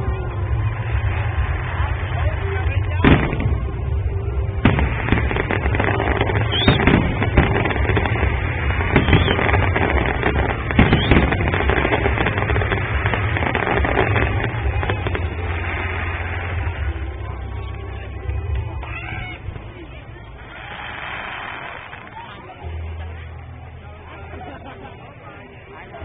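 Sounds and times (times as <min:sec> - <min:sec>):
fireworks bangs: 0:00.0 - 0:19.0, 0:20.4 - 0:22.4
fireworks crackling: 0:00.0 - 0:23.0
low rumble: 0:00.0 - 0:24.1.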